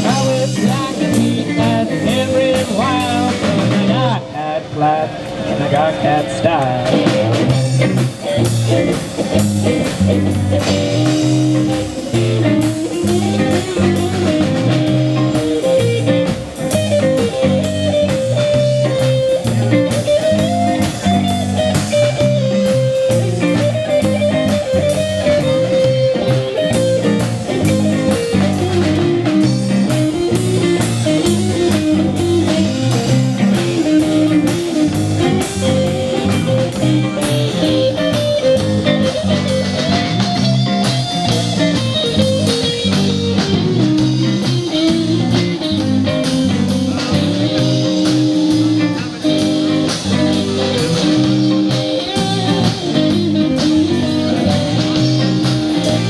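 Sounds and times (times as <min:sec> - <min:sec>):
lead guitar bending notes: 0:00.0 - 0:56.0
live rock band playing: 0:00.0 - 0:56.0.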